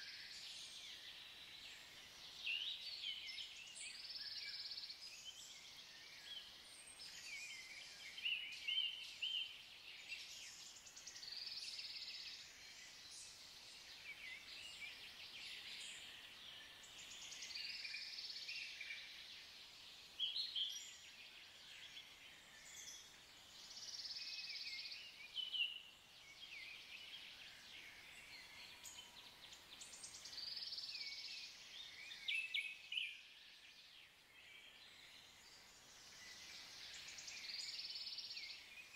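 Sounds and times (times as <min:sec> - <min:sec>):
faint outdoor hiss: 0:00.0 - 0:38.9.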